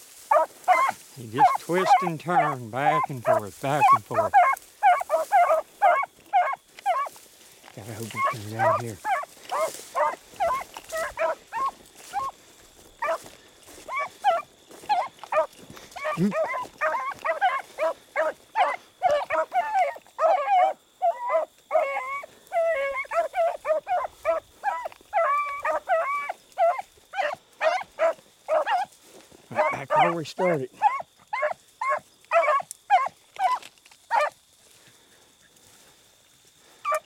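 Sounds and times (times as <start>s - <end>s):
dogs baying: 0.2s - 34.4s, 36.7s - 37.0s.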